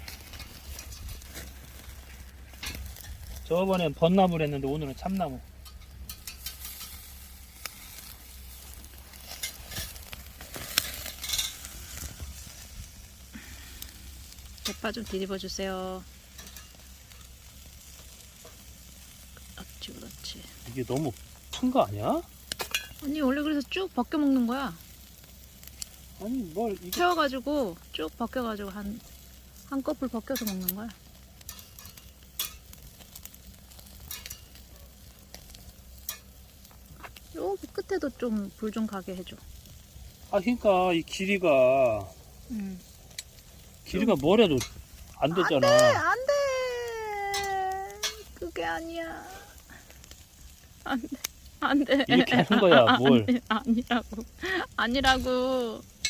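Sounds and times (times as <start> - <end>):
firewood crackling and popping: 0.0 - 56.0
food sizzling on grill: 0.0 - 56.0.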